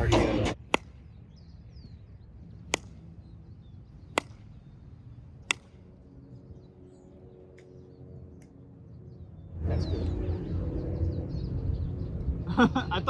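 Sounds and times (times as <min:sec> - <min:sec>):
bird chirps: 0:00.6 - 0:12.4.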